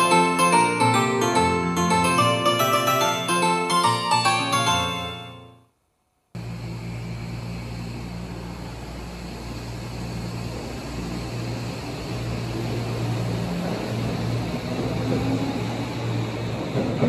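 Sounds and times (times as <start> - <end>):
subway train pulling out: 0.0 - 5.2, 6.4 - 17.0.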